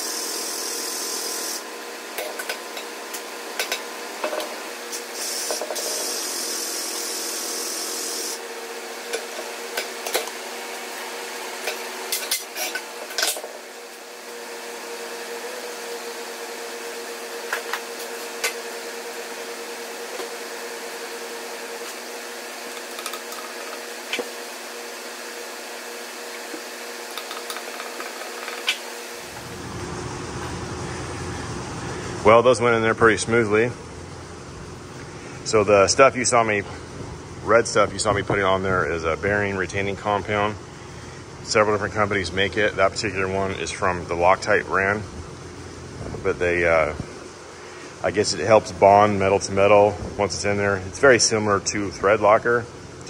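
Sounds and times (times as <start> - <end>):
steady shop hum: 0.0 - 53.0.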